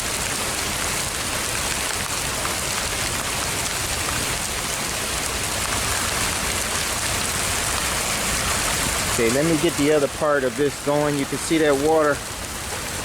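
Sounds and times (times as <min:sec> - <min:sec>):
heavy rain on hard surfaces: 0:00.0 - 0:13.0.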